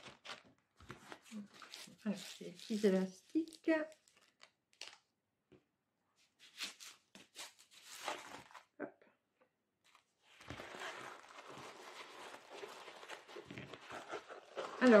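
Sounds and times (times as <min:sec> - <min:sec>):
paper rustling: 0:00.0 - 0:05.0, 0:06.3 - 0:08.7, 0:09.9 - 0:15.0.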